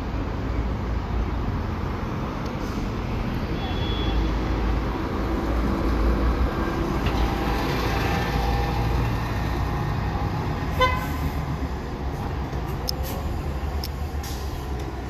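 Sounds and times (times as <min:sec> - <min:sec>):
bus engine rumble: 0:00.0 - 0:15.0
street traffic noise: 0:00.0 - 0:15.0.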